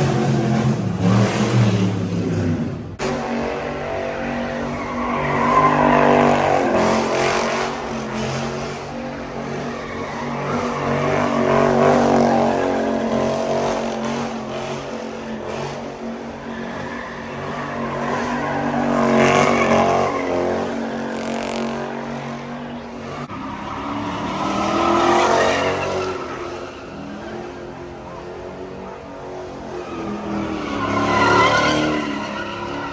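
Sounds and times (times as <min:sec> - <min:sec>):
tire squeal: 0:03.1 - 0:32.9.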